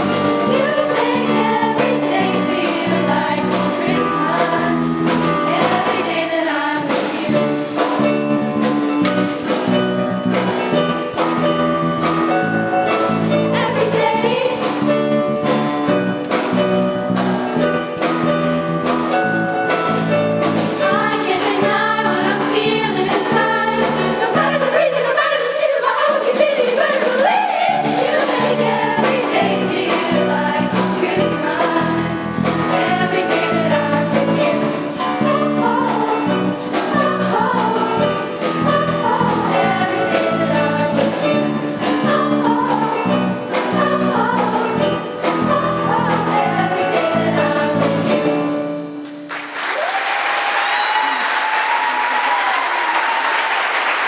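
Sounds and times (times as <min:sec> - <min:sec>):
band with steady drum beat: 0:00.0 - 0:24.9, 0:27.7 - 0:48.2
group of singers: 0:00.0 - 0:48.9.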